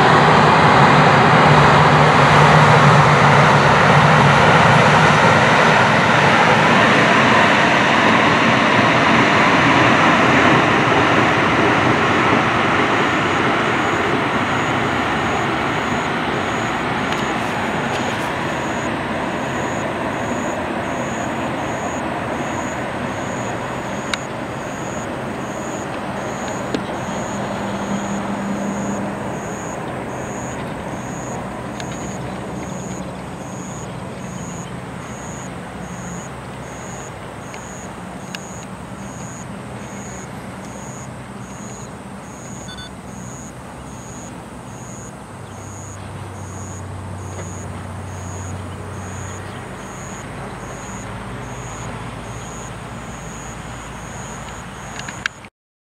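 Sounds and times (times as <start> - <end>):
train rumbling on bridge: 0.0 - 55.2.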